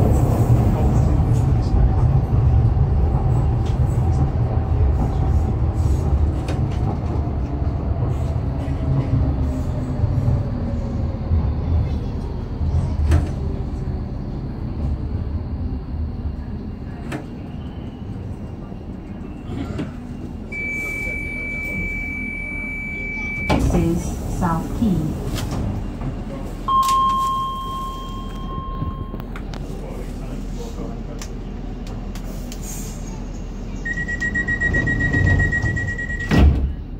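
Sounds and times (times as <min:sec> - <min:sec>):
low rumble of train: 0:00.0 - 0:36.9.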